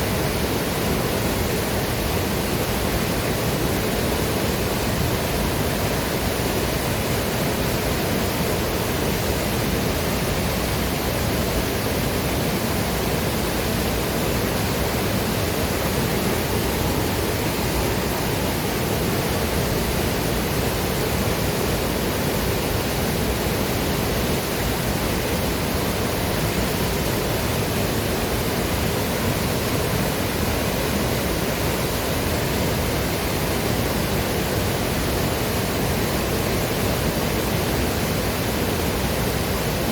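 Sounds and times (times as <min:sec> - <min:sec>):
waterfall and river rushing: 0:00.0 - 0:39.9.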